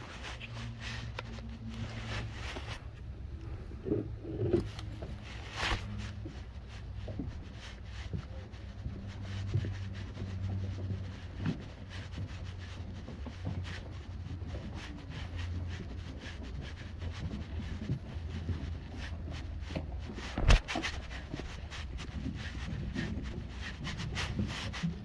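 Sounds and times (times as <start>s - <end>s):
footsteps on wooden dock: 0.0s - 25.0s
low steady hum: 0.0s - 25.0s
rustling: 0.0s - 25.0s.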